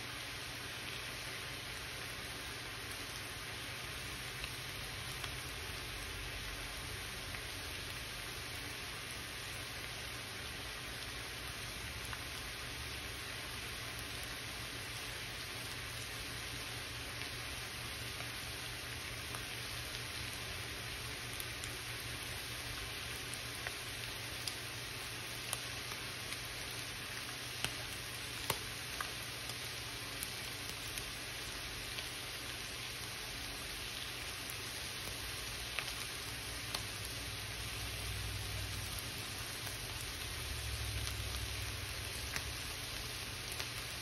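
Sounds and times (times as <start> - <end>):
beef sizzling in a skillet: 0.1 - 44.0.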